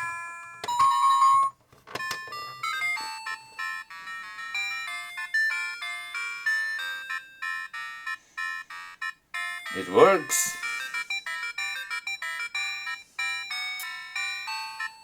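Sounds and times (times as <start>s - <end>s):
electronic chime melody from toy: 0.0s - 1.6s, 2.6s - 15.0s.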